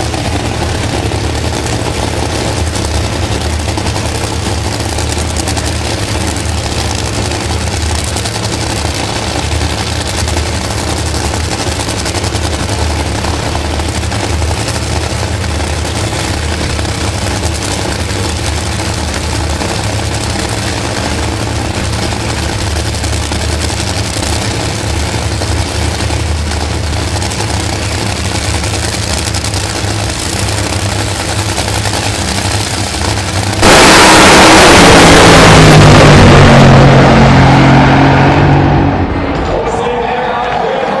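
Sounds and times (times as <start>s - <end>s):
dragster engines idling: 0.0s - 40.9s
engines at full throttle: 0.0s - 41.0s.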